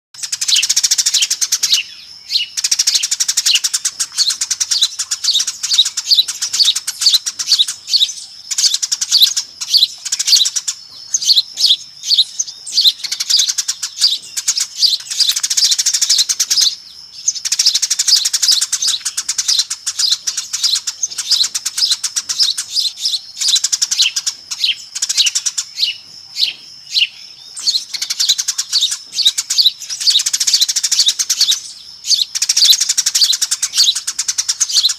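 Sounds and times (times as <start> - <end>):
sparrows chattering: 0.2 - 34.9.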